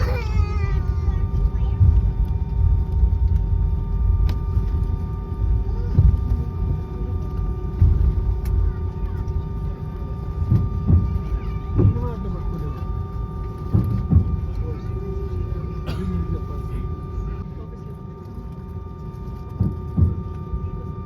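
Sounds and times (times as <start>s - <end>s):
aircraft cabin low rumble: 0.0s - 21.0s
pitched system hums: 0.0s - 21.0s.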